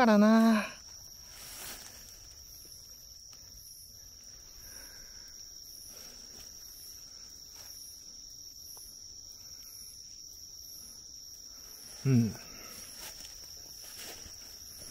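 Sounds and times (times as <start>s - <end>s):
crickets trilling: 0.0s - 14.9s
pulsing insect call: 0.0s - 14.9s.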